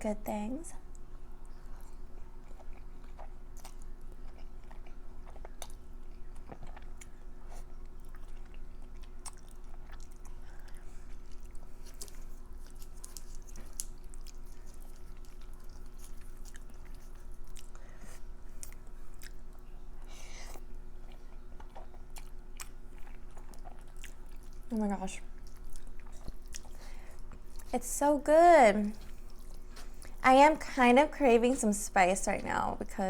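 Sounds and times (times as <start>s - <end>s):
chewing food: 0.8s - 27.8s, 28.9s - 30.2s.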